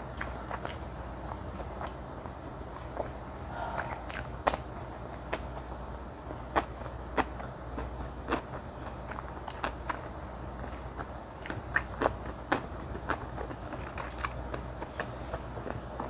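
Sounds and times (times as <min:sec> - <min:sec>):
close chewing: 0:00.0 - 0:02.0, 0:02.6 - 0:16.0.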